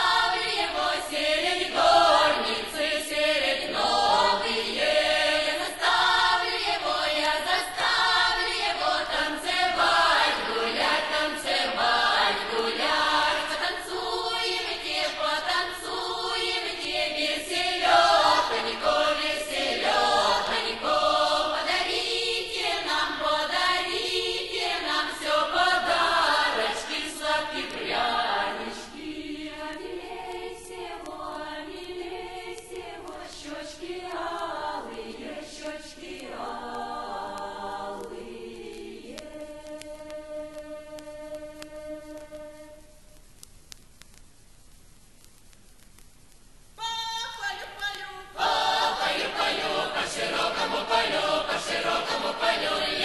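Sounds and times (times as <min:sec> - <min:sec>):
folk choir singing: 0:00.0 - 0:42.8, 0:47.6 - 0:53.0.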